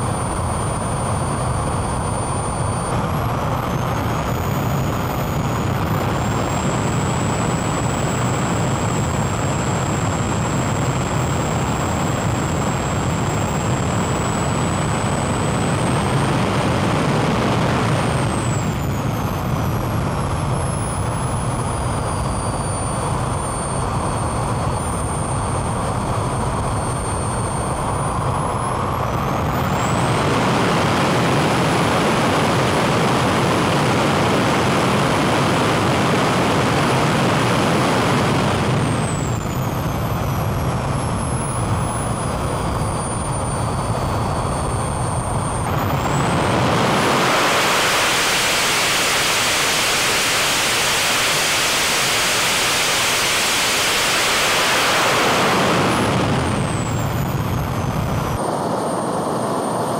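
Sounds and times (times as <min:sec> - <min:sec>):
jet engine roaring with whine: 0:00.0 - 0:59.9.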